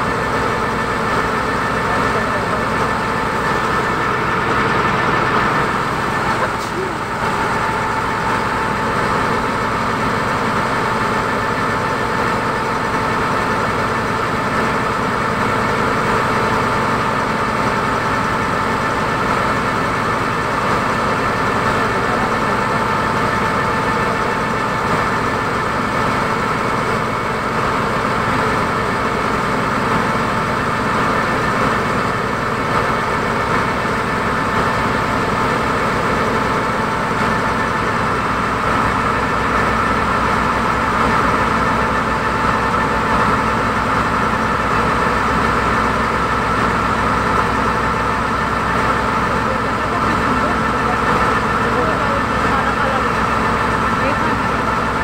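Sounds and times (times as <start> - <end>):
boat engine droning: 0.0 - 55.0
high engine whine: 0.0 - 55.0.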